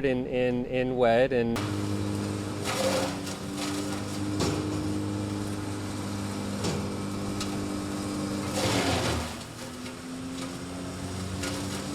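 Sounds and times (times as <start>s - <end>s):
engine running steadily: 1.6s - 11.9s.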